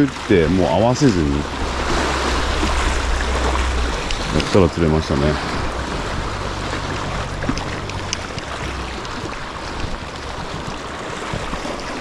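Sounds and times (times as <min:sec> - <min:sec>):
sea water washing against rocks: 0:00.0 - 0:12.0
low steady hum: 0:00.1 - 0:10.3
wind on the microphone: 0:00.4 - 0:12.0.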